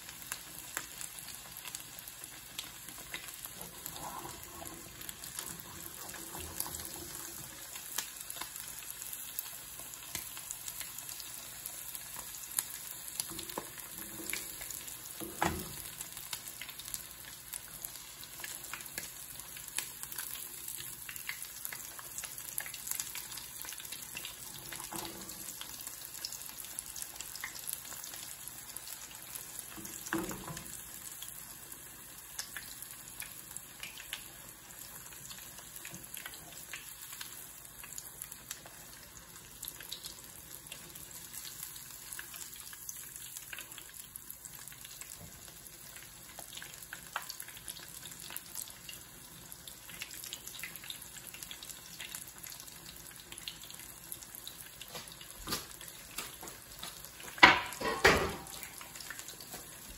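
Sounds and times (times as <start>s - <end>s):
cutlet sizzling in hot oil: 0.0s - 59.9s.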